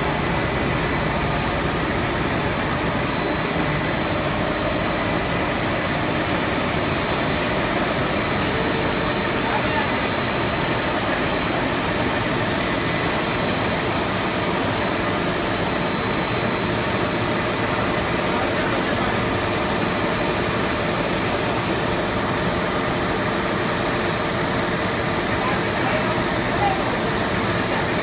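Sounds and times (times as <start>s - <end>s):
steady machine noise: 0.0s - 28.0s.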